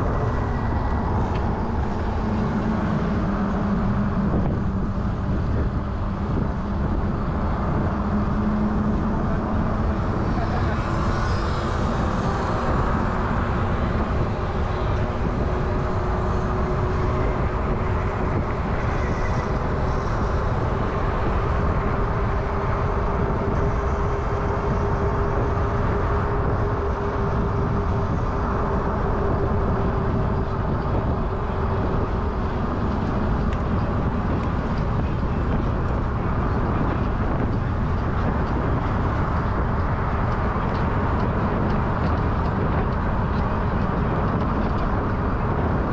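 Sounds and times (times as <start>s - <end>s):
road noise: 0.0s - 45.9s
wind rushing over microphone: 0.0s - 45.9s.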